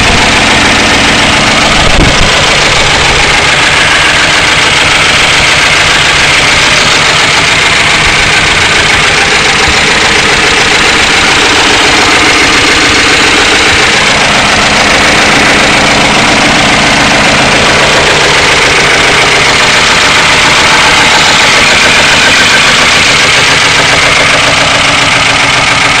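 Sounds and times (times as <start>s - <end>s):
car engine idling loudly: 0.0s - 26.0s
rapid engine clatter: 0.0s - 26.0s.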